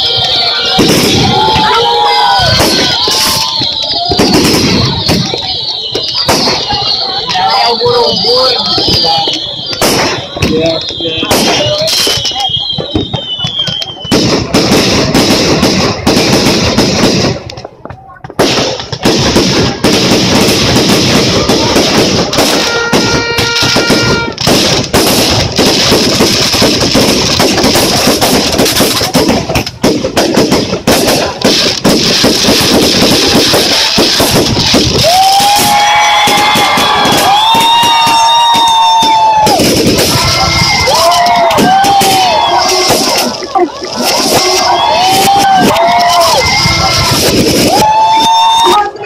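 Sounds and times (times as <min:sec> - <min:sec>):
fireworks bangs and crackling: 0:00.0 - 0:49.0.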